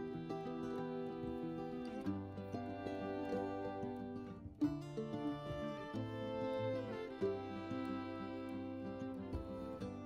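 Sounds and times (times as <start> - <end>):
instrumental music of held notes: 0.0 - 10.0.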